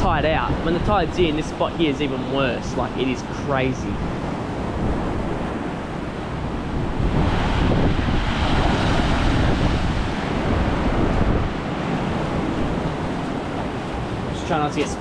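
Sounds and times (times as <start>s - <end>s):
ocean waves surging into rock: 0.0s - 15.0s
wind buffeting microphone: 0.0s - 15.0s.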